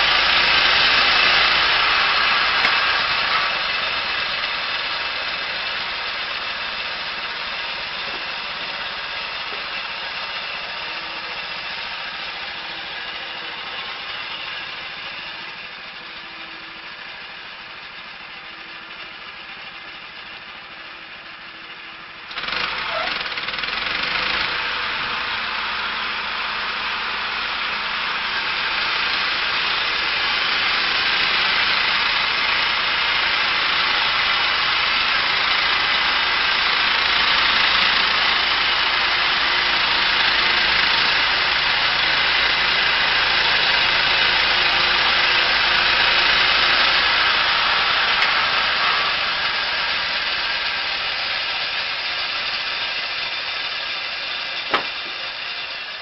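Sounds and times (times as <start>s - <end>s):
sawmill petrol engine cutting log: 0.0s - 56.0s.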